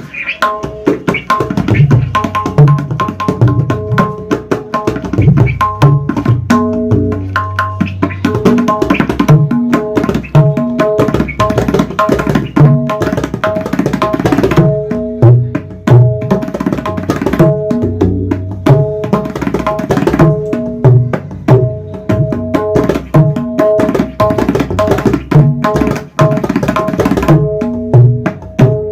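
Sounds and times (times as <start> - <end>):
tabla bass drum strokes: 0.0 - 28.9
tabla treble drum strokes: 0.0 - 28.9.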